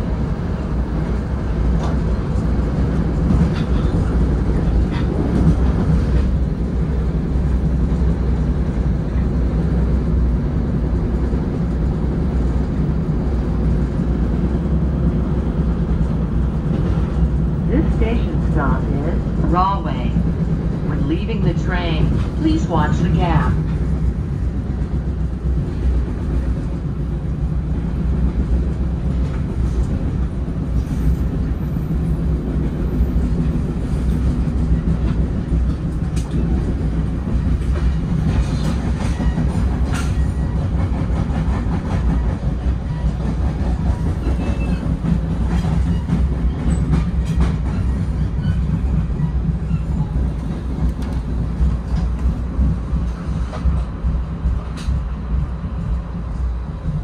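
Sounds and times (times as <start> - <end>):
train coach low rumble: 0.0 - 57.0.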